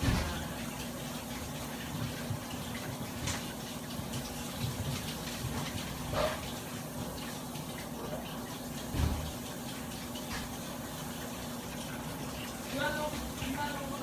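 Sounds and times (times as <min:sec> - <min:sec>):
tap water running into sink: 0:00.0 - 0:14.0.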